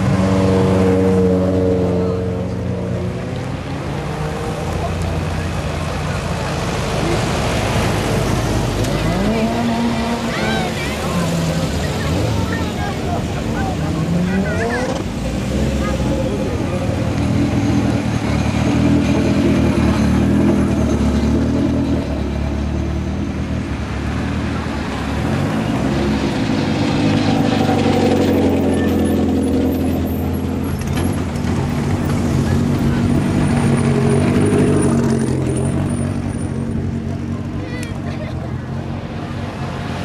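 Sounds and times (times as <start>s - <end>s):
racing cars passing slowly: 0.0s - 40.0s.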